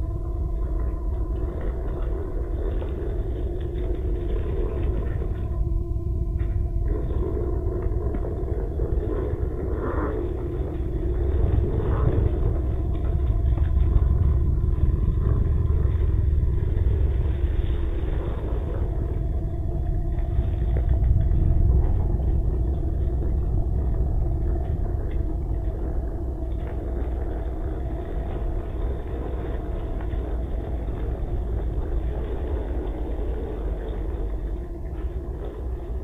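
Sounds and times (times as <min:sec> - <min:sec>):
faint motor whine: 0:00.0 - 0:36.0.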